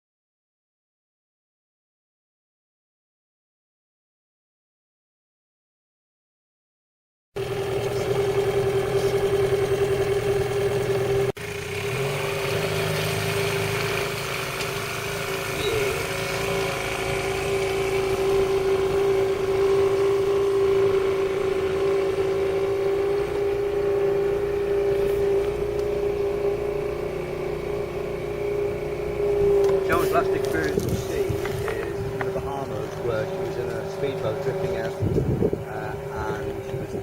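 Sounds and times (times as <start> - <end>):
engine running with whine: 7.4 - 37.0.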